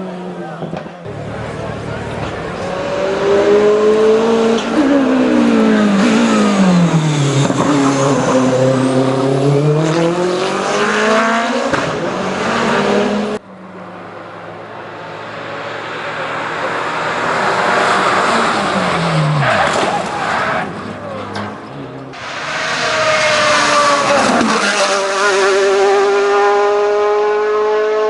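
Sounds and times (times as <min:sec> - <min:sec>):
race car engine revving: 0:00.8 - 0:13.4, 0:14.8 - 0:28.0.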